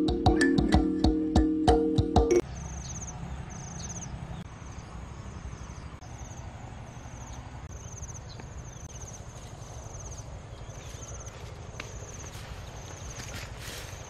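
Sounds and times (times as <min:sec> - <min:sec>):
insect chirping trills: 0:02.4 - 0:14.0.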